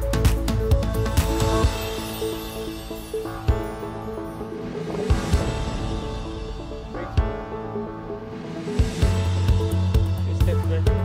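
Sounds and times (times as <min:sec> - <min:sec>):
music with drums and heavy bass: 0:00.0 - 0:11.0.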